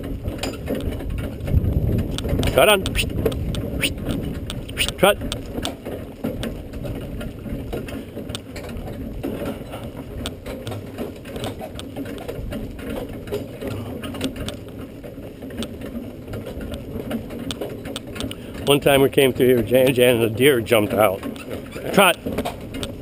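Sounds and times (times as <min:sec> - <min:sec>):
carriage rattling and clicking: 0:00.0 - 0:23.0
horse hoofbeats: 0:00.0 - 0:23.0.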